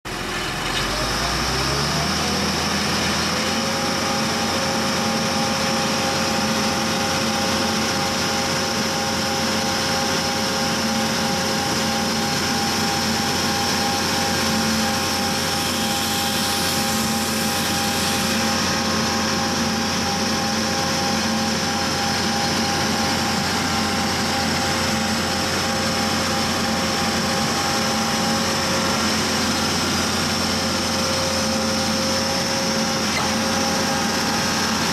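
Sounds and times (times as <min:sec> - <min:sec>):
diesel engine whining: 0:00.1 - 0:34.9.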